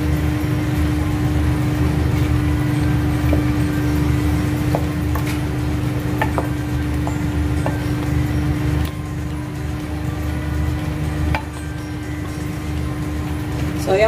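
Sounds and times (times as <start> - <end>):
low hum and rumble: 0.0 - 14.0.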